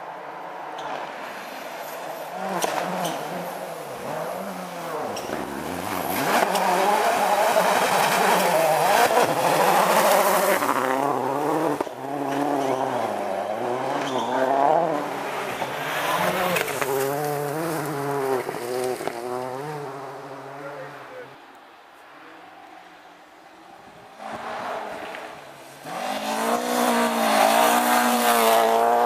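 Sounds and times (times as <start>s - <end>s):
rally car engine at full throttle: 1.0s - 21.3s, 23.8s - 29.0s.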